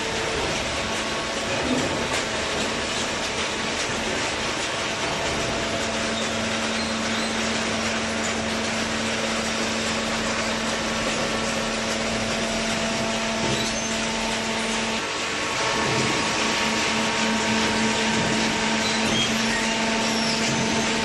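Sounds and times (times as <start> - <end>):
hydraulic motor and pump running: 0.0 - 21.0.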